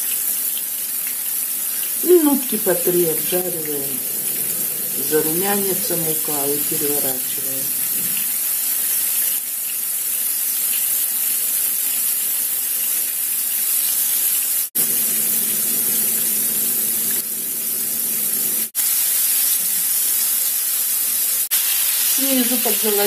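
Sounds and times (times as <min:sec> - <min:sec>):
liver sizzling in hot oil: 0:00.0 - 0:17.3, 0:18.0 - 0:23.0.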